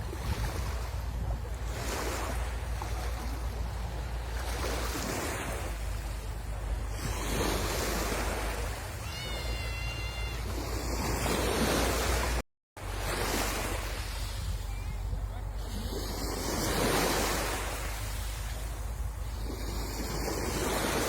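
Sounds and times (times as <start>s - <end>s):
wind buffeting microphone: 0.0s - 9.1s, 10.3s - 21.0s
sea waves washing onto beach: 0.0s - 21.0s.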